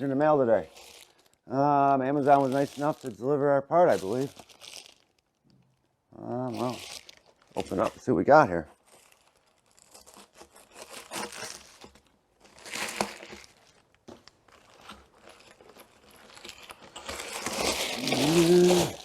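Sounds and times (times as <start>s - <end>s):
packaging tearing: 0.0s - 1.4s, 2.0s - 5.4s, 6.3s - 19.0s
packaging crinkling: 0.0s - 19.0s.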